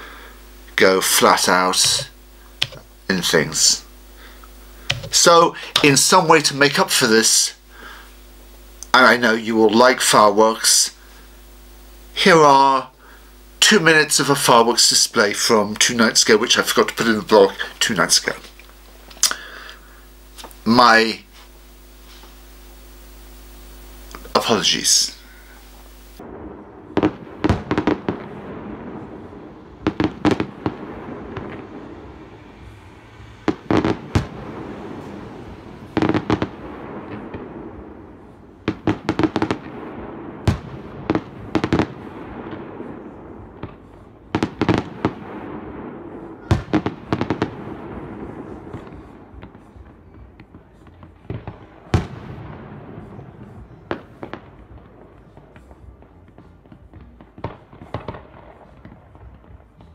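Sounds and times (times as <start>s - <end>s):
continuous noisy rumble: 0.0s - 59.9s
fireworks bursting bangs: 0.0s - 59.9s.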